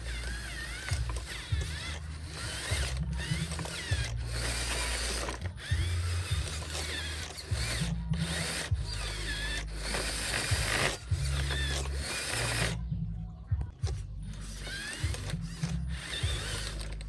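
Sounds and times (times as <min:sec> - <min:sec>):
small gear motors whining: 0:00.0 - 0:17.0.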